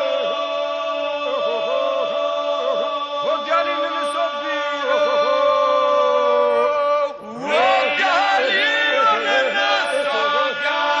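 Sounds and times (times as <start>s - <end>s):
male group singing polyphony: 0.0s - 11.0s.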